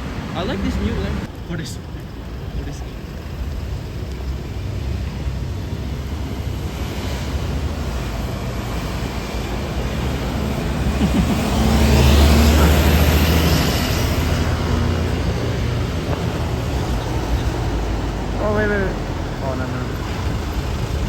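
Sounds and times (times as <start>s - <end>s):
heavy vehicle engine rumbling: 0.0s - 21.0s
road noise: 0.0s - 21.0s.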